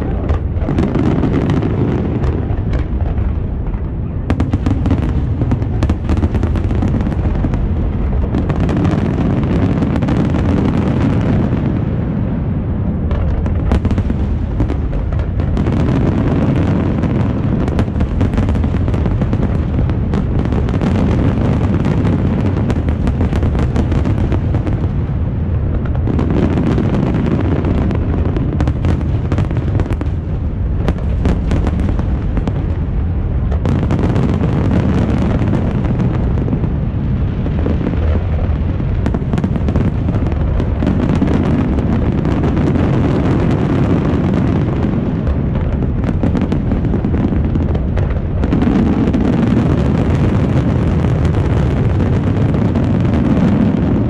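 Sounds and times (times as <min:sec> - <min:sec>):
fireworks bangs rumbling: 0:00.0 - 0:54.0
fireworks sharp cracks: 0:00.0 - 0:54.0.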